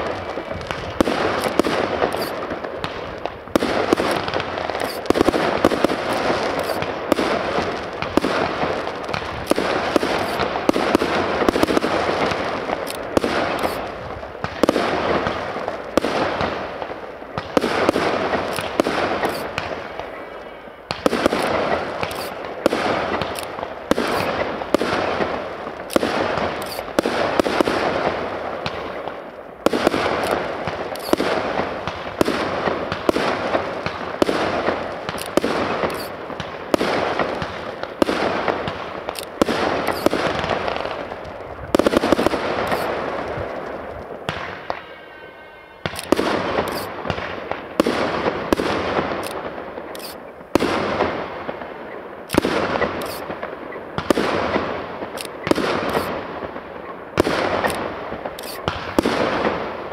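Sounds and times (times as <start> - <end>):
crackling of bursting stars: 0.0 - 59.9
firework bangs: 0.0 - 59.9.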